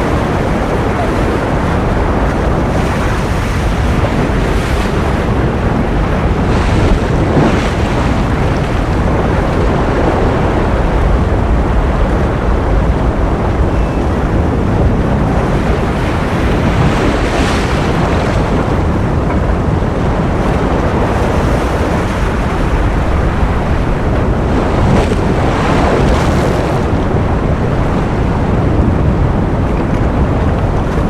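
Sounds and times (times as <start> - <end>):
ocean surf: 0.0 - 31.0.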